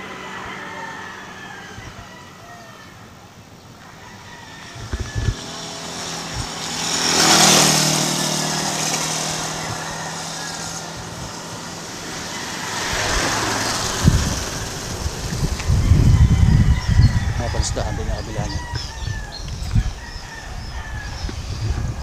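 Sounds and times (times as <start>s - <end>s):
engine approaching: 0.0s - 22.0s
small motorcycle passing by: 0.0s - 22.0s.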